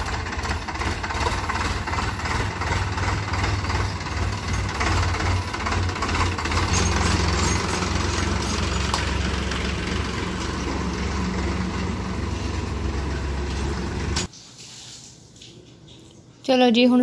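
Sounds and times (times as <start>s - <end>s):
diesel tractor engine running: 0.0s - 14.3s.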